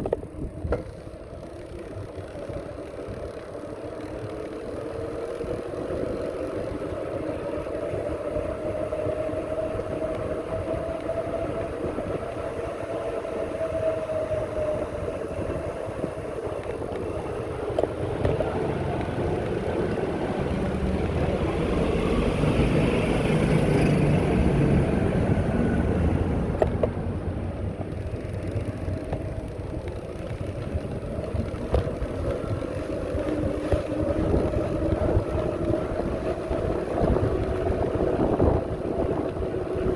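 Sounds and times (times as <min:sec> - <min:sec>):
bicycle riding hum: 0:00.0 - 0:39.9
rushing wind noise: 0:07.8 - 0:39.9.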